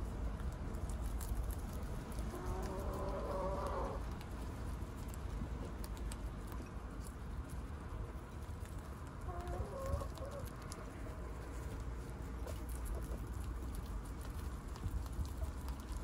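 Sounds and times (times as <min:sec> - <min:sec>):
guinea pigs chewing: 0:00.0 - 0:16.0
small crunching clicks: 0:00.1 - 0:16.0.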